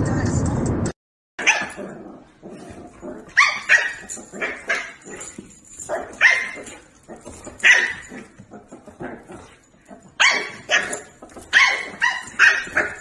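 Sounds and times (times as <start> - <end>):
dog barking and yipping: 1.4 - 13.0.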